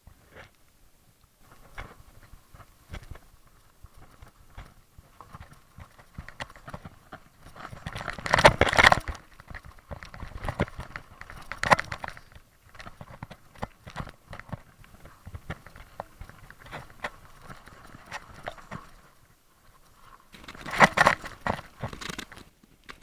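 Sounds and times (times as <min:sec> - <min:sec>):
mountain bike rattling: 0:01.4 - 0:22.6.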